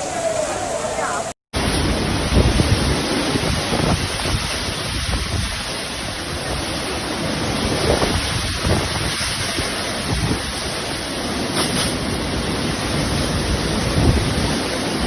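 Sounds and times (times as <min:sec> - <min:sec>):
water rushing: 0:00.0 - 0:15.0
wind buffeting microphone: 0:00.0 - 0:15.0.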